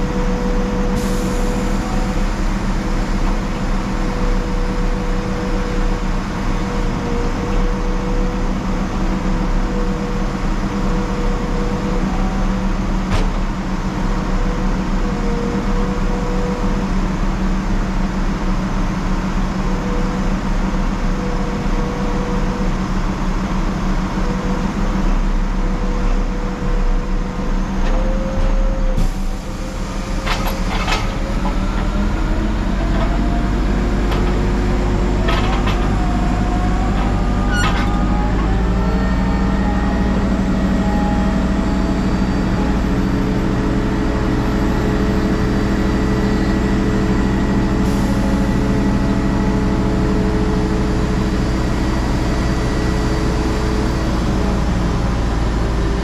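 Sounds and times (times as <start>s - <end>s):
crane diesel engine revving: 0.0s - 56.0s.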